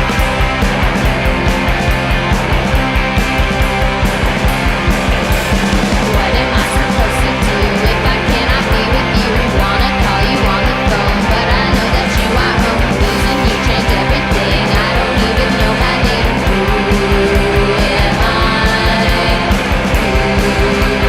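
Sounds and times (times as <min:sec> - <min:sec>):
electric guitar: 0:00.0 - 0:21.0
punk rock band playing: 0:00.0 - 0:21.0.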